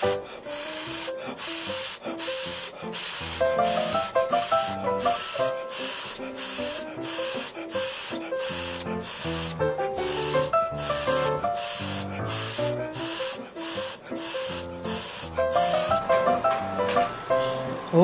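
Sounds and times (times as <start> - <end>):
background music melody: 0.0 - 18.0
hissing percussion: 0.0 - 18.0.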